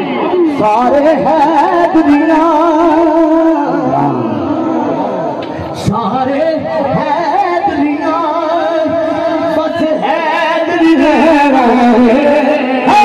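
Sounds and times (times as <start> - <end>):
person singing devotional melody: 0.0 - 13.0.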